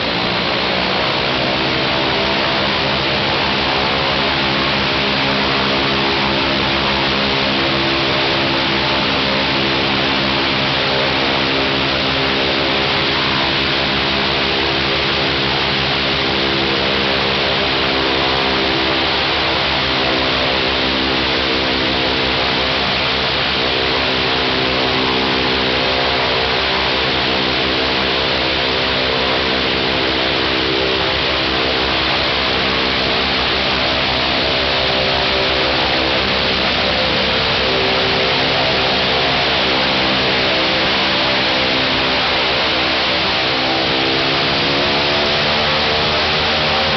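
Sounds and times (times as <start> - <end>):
radial aircraft engine droning: 0.0 - 46.9.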